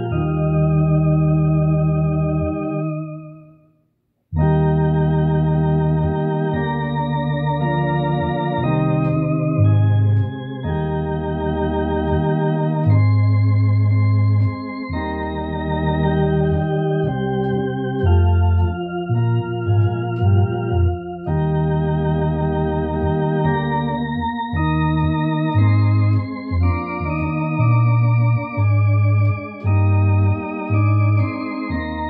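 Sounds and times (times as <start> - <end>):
electronic organ playing hymn chords: 0.0 - 3.6, 4.4 - 32.0.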